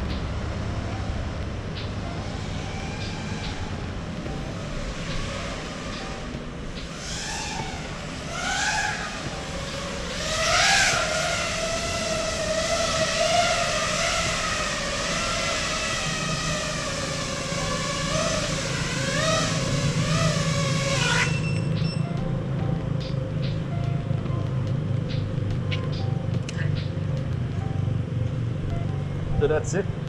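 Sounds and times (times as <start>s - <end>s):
quadcopter whining: 0.0s - 26.8s.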